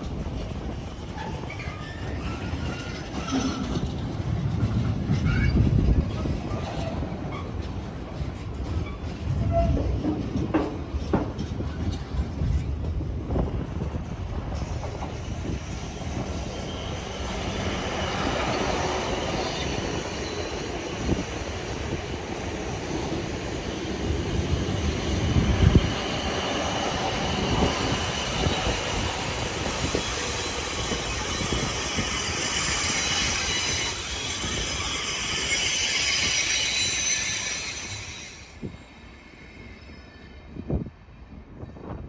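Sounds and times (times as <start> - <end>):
train running on track: 0.0 - 42.0.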